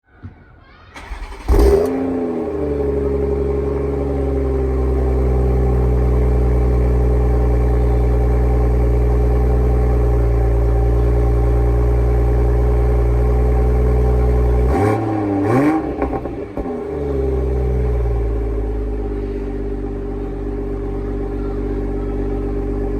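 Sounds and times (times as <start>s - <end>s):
car engine idling and revving: 1.0s - 22.9s.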